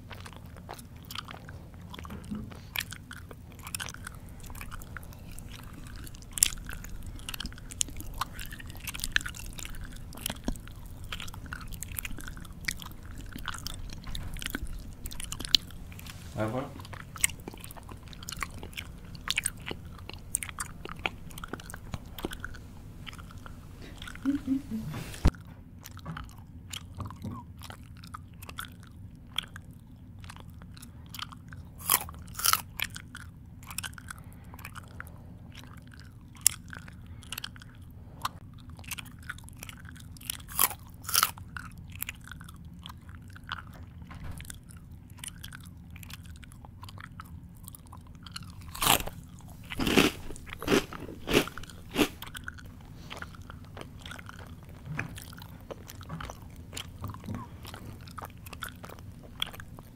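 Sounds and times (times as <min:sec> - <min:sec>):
person chewing crunchy food: 0:00.0 - 0:59.9
steady low hum: 0:00.0 - 0:59.9.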